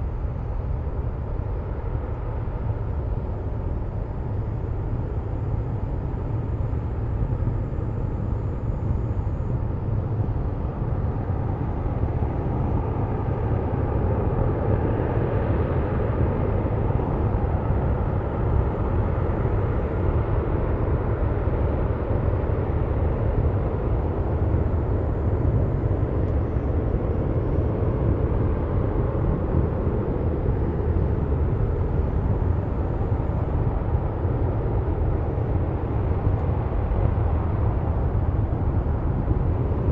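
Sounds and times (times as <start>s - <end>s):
distant rocket engine roar: 0.0s - 39.9s.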